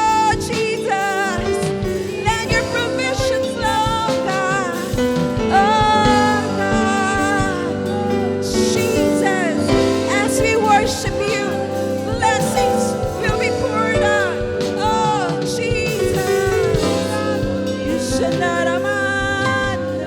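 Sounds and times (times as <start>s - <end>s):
band chords with soft beat: 0.0s - 20.0s.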